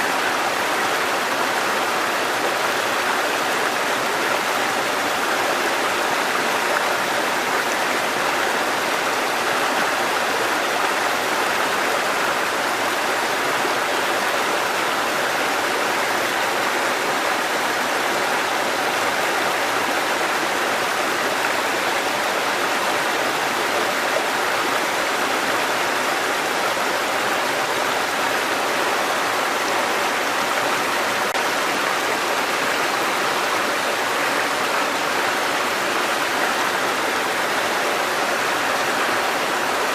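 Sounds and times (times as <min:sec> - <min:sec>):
water cascading in a stream: 0:00.0 - 0:39.9.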